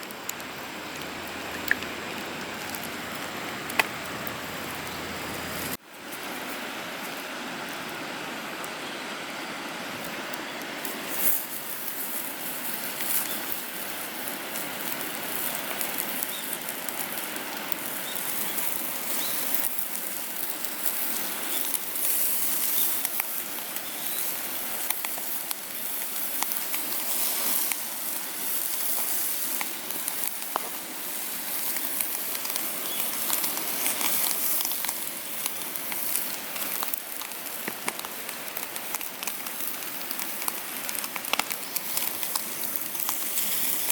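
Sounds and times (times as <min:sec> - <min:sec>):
sharp pops from fire: 0:00.0 - 0:05.0, 0:10.6 - 0:43.9
wood fire crackling and hissing: 0:00.0 - 0:43.9.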